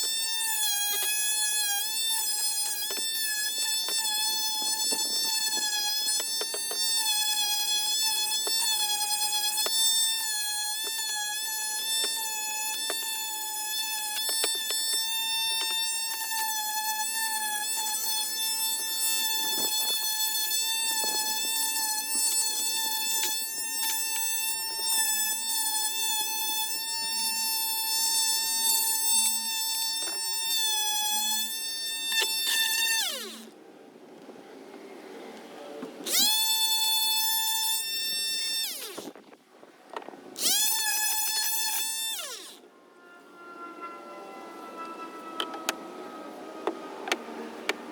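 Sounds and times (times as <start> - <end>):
electric sander whining: 0.0 - 33.6, 35.8 - 39.3, 39.9 - 47.9.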